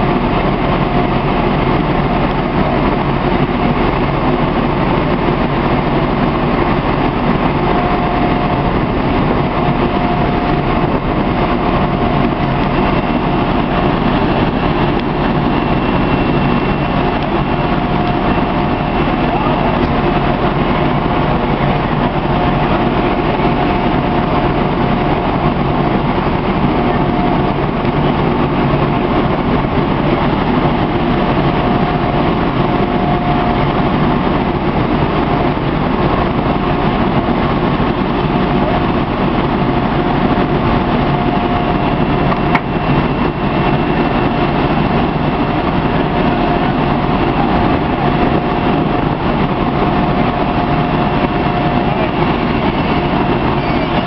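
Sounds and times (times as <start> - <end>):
faint steady whine: 0.0 - 54.0
heavy engine running: 0.0 - 54.0.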